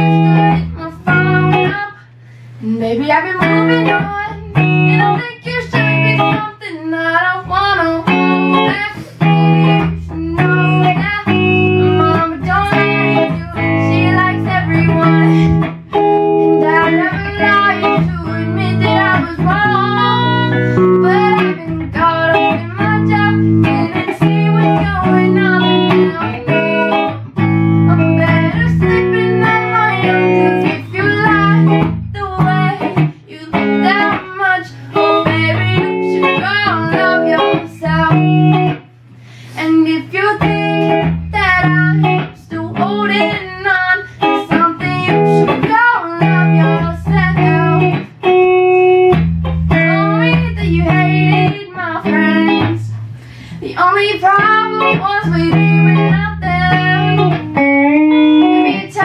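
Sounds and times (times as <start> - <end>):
person singing: 0.0 - 2.0, 2.6 - 27.2, 27.8 - 38.7, 39.5 - 48.0, 49.7 - 57.6
guitar chords: 0.0 - 59.0.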